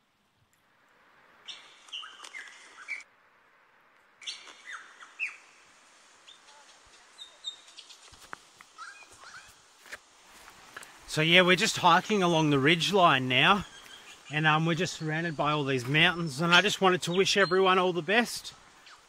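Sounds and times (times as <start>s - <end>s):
wild birds chirping: 0.9s - 19.0s.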